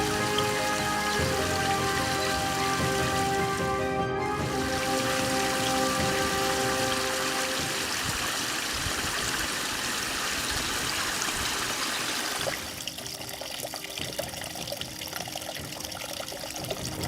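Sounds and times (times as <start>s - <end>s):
water drips: 0.0s - 3.6s, 4.4s - 17.0s
water trickling: 0.0s - 3.8s, 4.4s - 17.0s
running water rushing: 0.0s - 17.0s.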